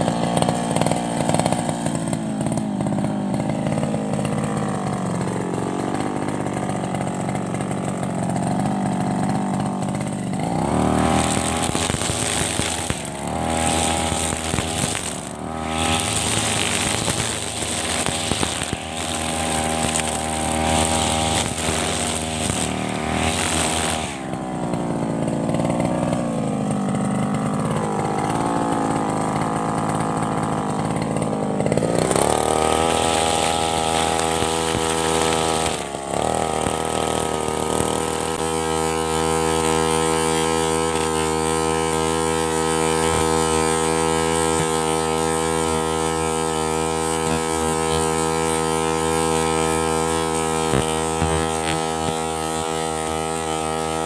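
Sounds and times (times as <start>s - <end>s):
grass trimmer engine cutting grass: 0.0s - 54.0s.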